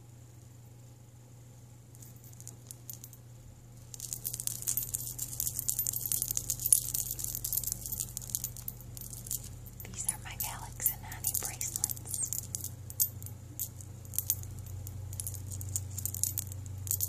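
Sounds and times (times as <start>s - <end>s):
metal bracelets jingling: 2.0s - 3.2s, 3.8s - 17.0s.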